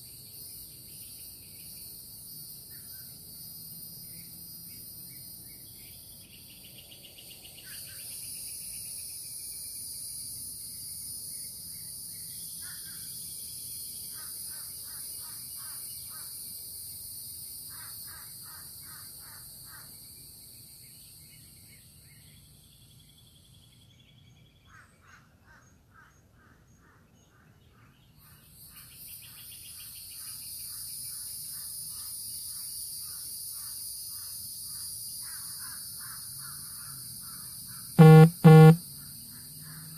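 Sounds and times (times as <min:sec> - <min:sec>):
night insects chorus: 0:00.0 - 0:24.0, 0:28.5 - 0:38.0.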